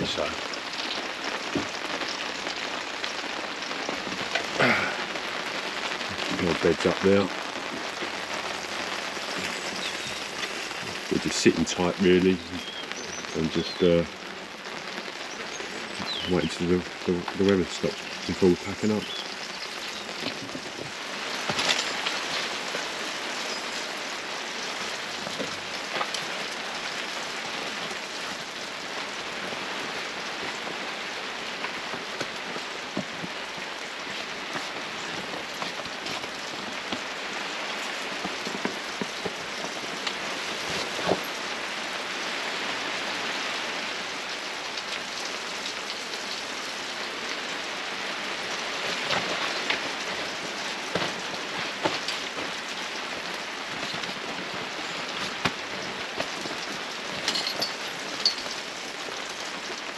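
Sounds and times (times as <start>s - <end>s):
sharp raindrop strikes: 0.0s - 59.9s
steady rain falling: 0.0s - 59.9s.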